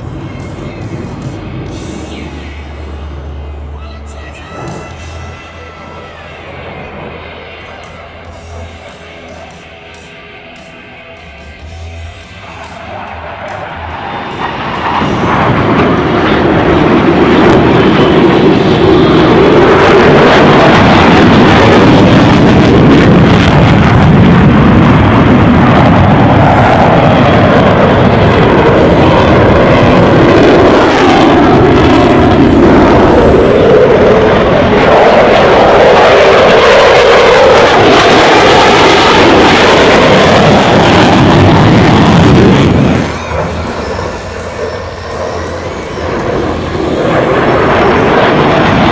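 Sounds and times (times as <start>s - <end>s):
jet engines passing overhead: 0.0s - 48.9s.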